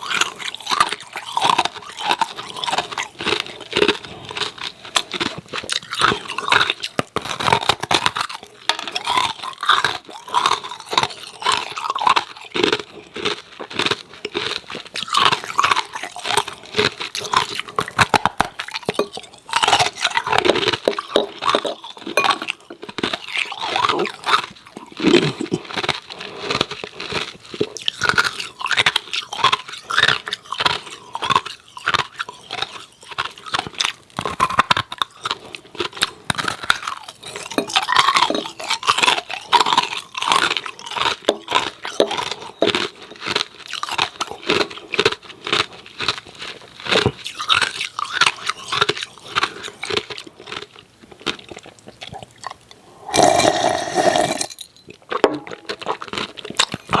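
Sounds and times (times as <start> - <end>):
chewing ice cubes: 0.0 - 57.0.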